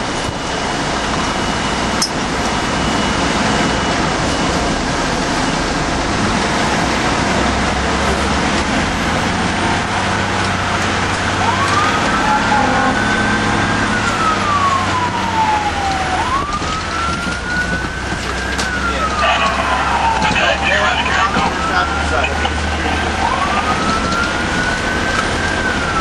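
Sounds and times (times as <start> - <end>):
engine and road noise in cab: 0.0 - 26.0
wailing siren: 0.0 - 26.0.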